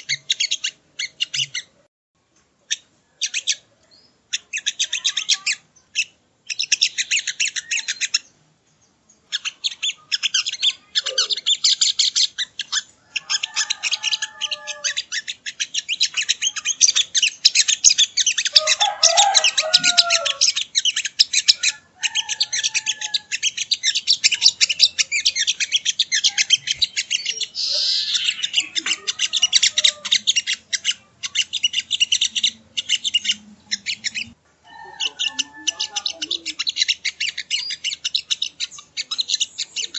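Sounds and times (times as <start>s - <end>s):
bird singing high chirping trills: 2.7s - 39.9s.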